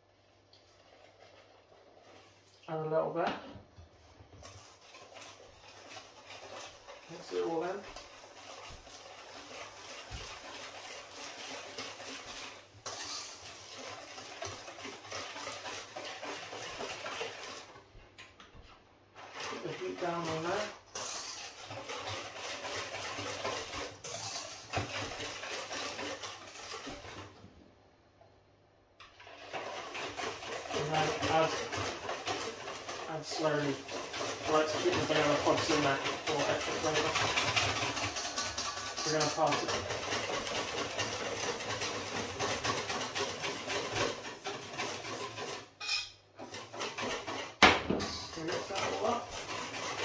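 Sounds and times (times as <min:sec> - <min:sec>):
whisk beating in metal bowl: 0:00.0 - 0:27.4, 0:29.0 - 0:50.0.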